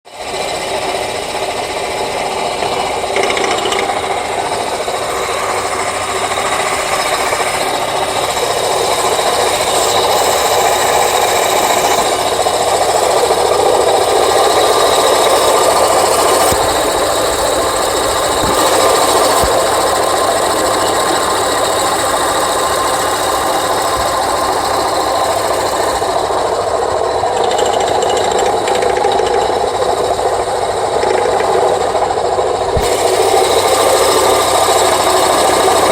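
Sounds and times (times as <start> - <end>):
engine running with rattle: 0.1 - 35.9.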